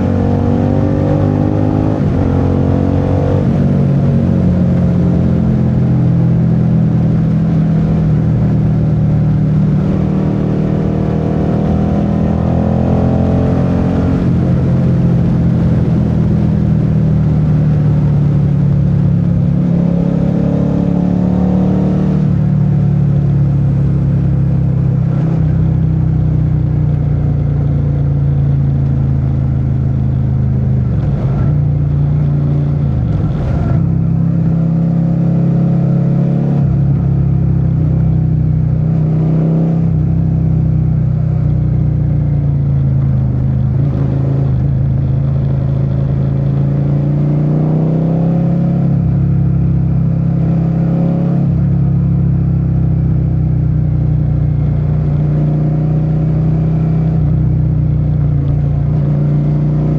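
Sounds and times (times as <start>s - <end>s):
motorcycle engine running: 1.6s - 21.4s, 22.2s - 35.2s, 39.9s - 47.4s, 51.6s - 59.9s.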